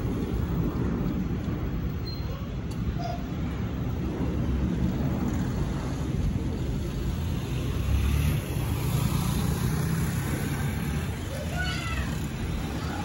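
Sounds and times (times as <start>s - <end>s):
airliner rumble overhead: 0.0s - 7.8s, 10.3s - 13.0s.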